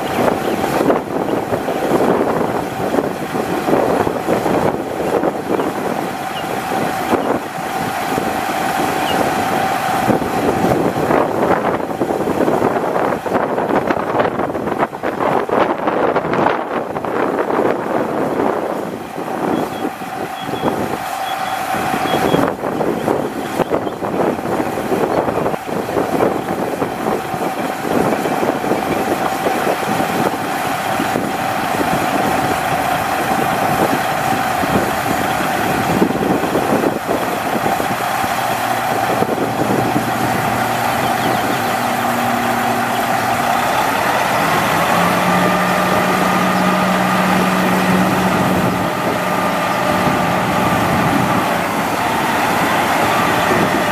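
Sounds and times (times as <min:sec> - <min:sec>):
deep hum: 0:00.0 - 0:53.9
diesel truck engine running: 0:00.0 - 0:53.9
steady whine: 0:00.0 - 0:53.9.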